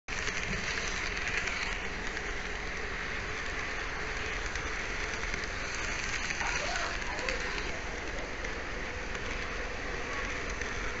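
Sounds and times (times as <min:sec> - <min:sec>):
model train motor and wheels whirring: 0:00.1 - 0:11.0.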